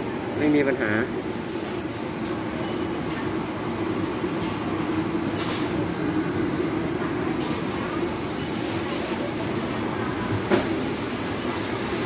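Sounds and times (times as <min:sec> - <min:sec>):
air conditioner fan humming: 0:00.0 - 0:12.0.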